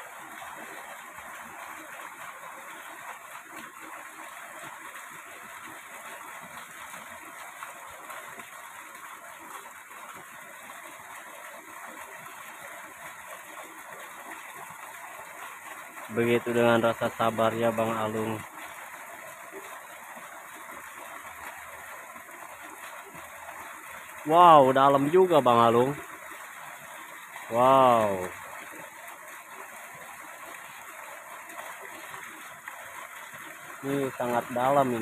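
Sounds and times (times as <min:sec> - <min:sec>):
stream flowing over stones: 0:00.0 - 0:35.0.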